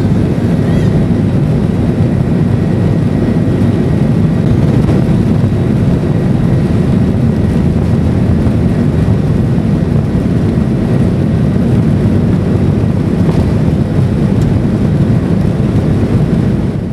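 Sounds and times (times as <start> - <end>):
jet engines rumbling: 0.0 - 16.9.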